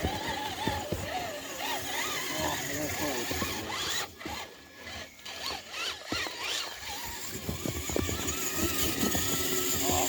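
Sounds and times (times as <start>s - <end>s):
electric motor and gears whining: 0.0s - 10.0s
gear and tyre clicks: 0.0s - 10.0s.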